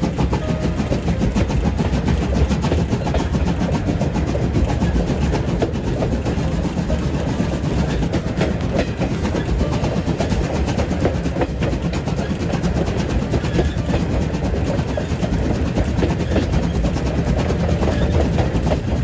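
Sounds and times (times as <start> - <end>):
steam train rumbling: 0.0 - 19.0
wheels clattering over track: 0.0 - 19.0.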